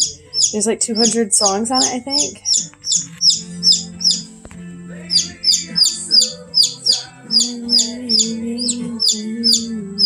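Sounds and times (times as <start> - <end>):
baby chick peeping: 0.0 - 10.0.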